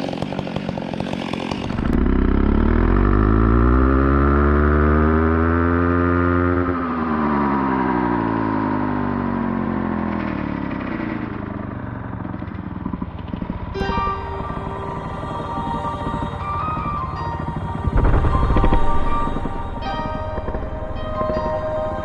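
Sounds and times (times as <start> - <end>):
slowed chainsaw engine drone: 0.0 - 22.0.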